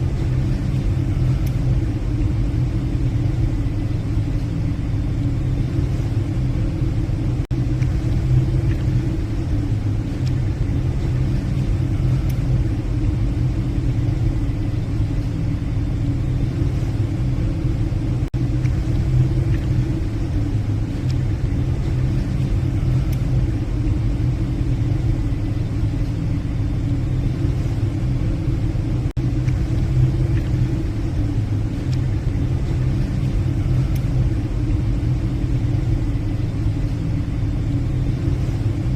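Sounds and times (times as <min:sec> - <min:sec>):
ship engines droning: 0:00.0 - 0:38.9.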